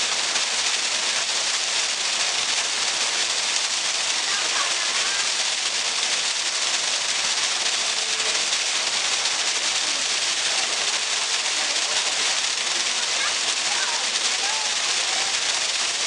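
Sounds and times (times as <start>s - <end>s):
water splashing into a pool: 0.0s - 16.0s.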